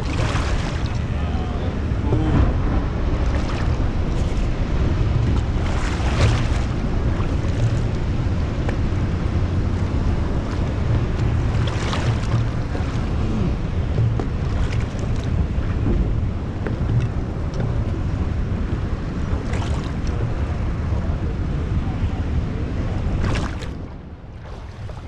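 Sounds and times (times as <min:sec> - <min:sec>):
water sloshing against hull: 0:00.0 - 0:25.0
wind rumbling on microphone: 0:00.0 - 0:25.0.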